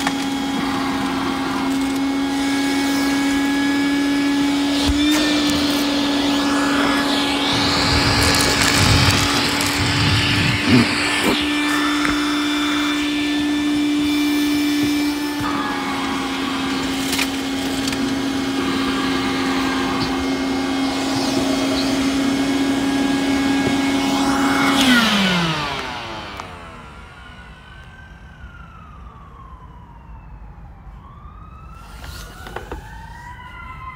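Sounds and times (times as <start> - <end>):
shop vacuum motor whine: 0.0 - 29.7, 31.1 - 33.9.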